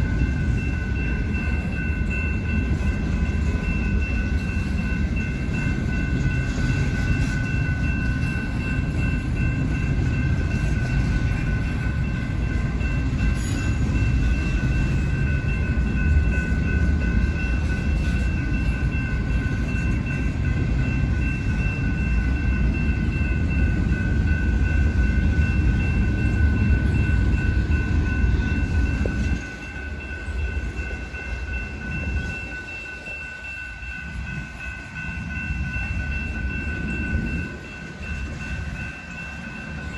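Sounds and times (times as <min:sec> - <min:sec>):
freight train wheels rumbling on rail: 0:00.0 - 0:39.9.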